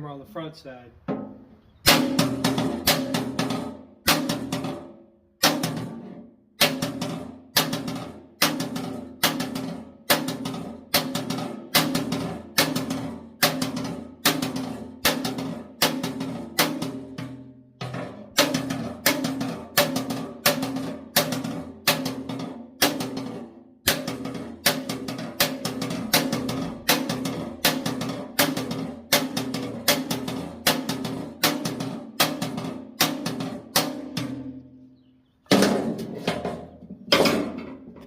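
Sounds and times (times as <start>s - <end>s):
hammer on sheet steel: 1.1s - 4.8s, 5.4s - 34.6s.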